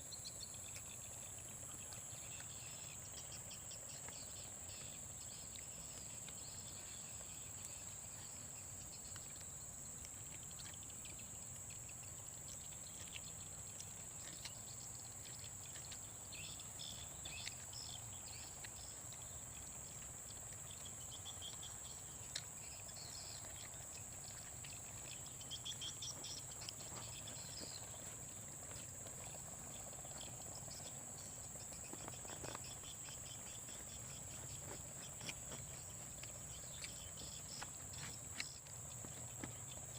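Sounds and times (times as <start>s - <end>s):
insects high-pitched drone: 0.0s - 39.9s.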